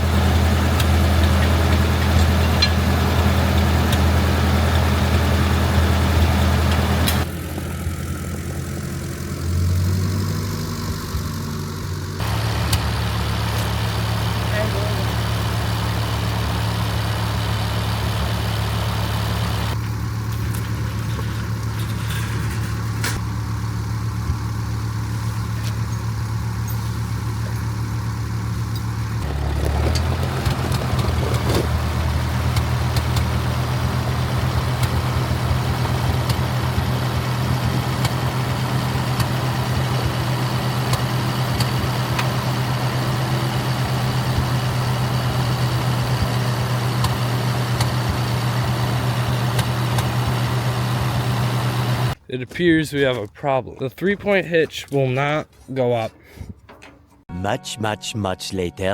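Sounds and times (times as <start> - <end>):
tractor engine running: 0.0 - 58.8.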